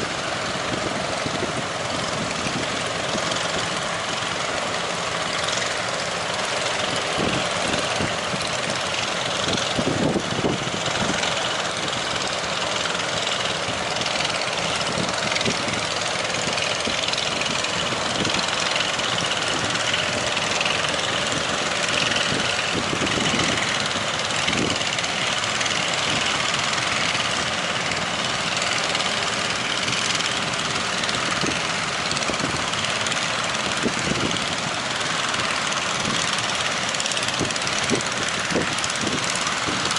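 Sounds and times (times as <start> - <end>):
boat engine running: 0.0 - 39.9
strong wind: 0.0 - 39.9.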